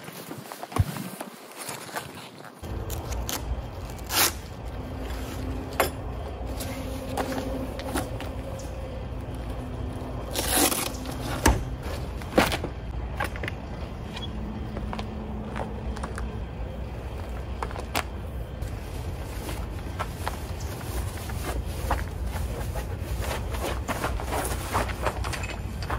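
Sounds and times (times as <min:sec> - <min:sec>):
steady low rumble: 0:02.6 - 0:25.9.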